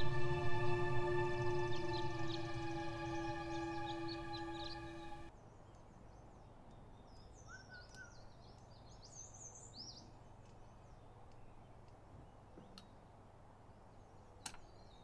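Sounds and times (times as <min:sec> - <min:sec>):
small birds chirping: 0:01.3 - 0:13.1, 0:13.8 - 0:15.0.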